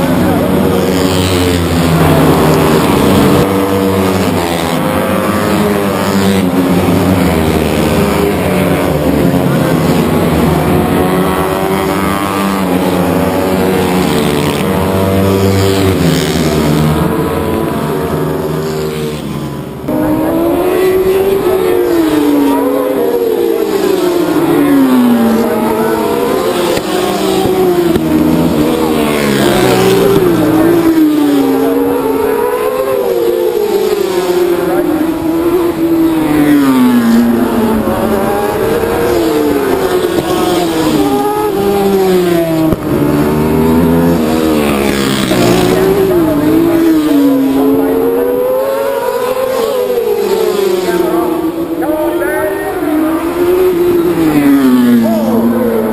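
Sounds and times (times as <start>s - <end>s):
race motorcycles at high revs: 0.0s - 55.9s.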